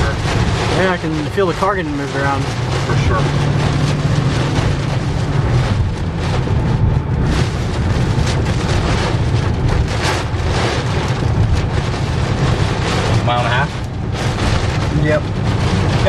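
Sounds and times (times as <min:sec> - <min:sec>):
strong wind gusting around car: 0:00.0 - 0:16.0.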